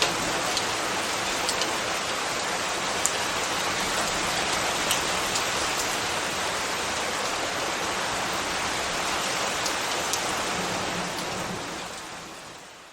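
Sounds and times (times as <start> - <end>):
rain drop ticks: 0.0 - 7.4, 8.3 - 12.7
light rain falling: 0.0 - 12.9.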